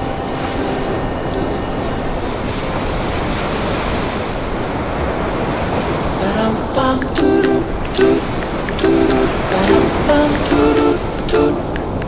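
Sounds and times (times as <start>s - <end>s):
waves crashing on shore: 0.0s - 12.0s.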